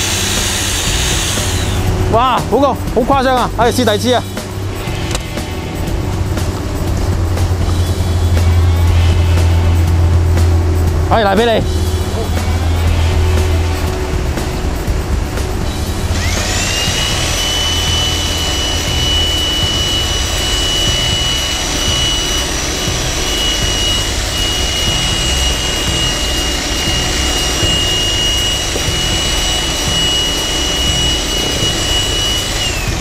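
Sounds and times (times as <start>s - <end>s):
high-pitched motor whine: 0.0s - 33.0s
jackhammer pounding concrete: 0.0s - 33.0s.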